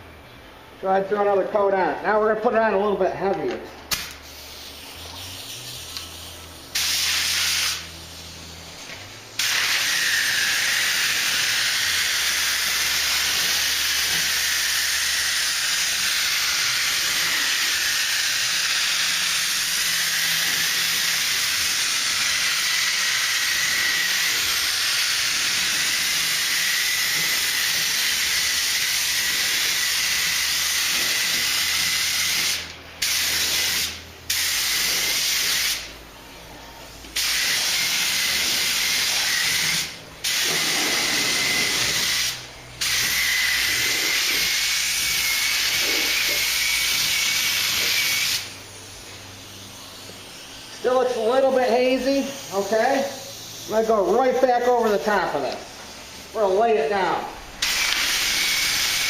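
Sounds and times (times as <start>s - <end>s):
paint spray gun hissing: 3.9s - 8.8s, 9.4s - 35.9s, 37.2s - 56.4s, 57.6s - 59.0s.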